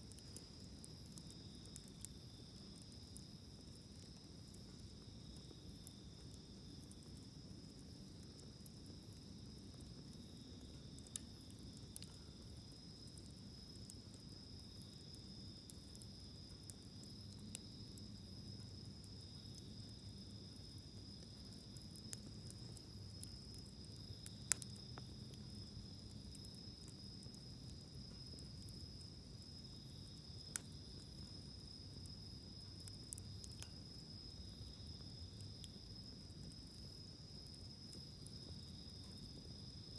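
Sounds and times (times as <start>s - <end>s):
campfire pops: 0.0s - 39.7s
insects trilling: 0.0s - 39.9s.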